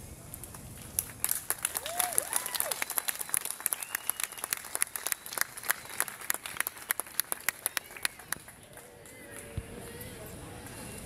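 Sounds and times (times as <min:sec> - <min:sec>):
audience clapping: 0:00.5 - 0:09.5.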